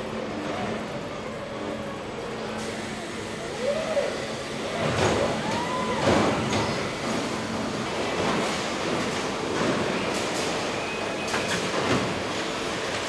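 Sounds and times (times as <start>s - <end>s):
factory hum: 0.0s - 13.0s.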